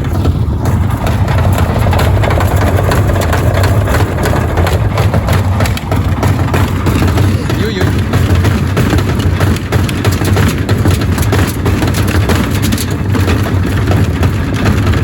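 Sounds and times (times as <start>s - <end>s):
bricks banging in drum: 0.0s - 15.0s
washing machine hum: 0.0s - 15.0s.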